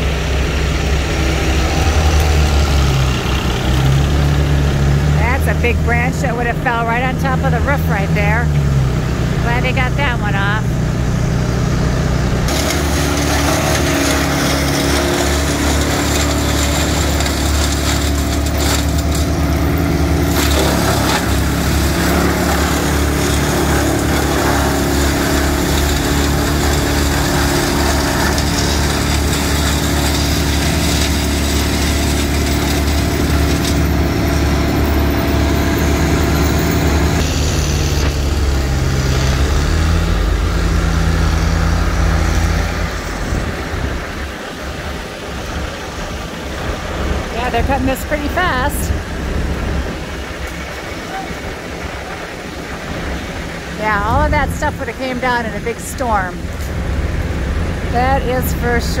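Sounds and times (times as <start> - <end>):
wood chipper chipping branches: 0.0 - 59.0.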